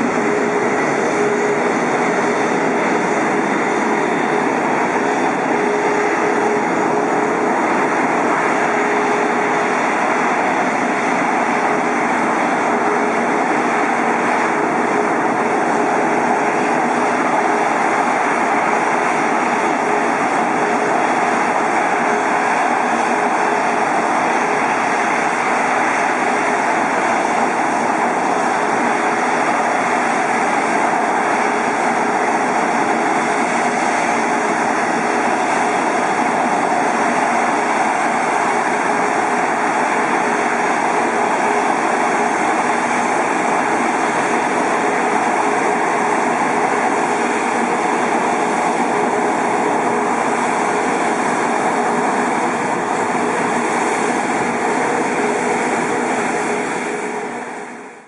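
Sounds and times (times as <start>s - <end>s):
faint jet engine whine: 0.0s - 58.0s
jet engines rushing: 0.0s - 58.0s.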